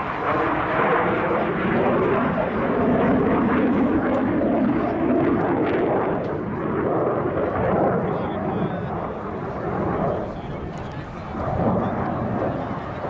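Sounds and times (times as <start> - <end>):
fighter jet flying past: 0.0 - 13.0.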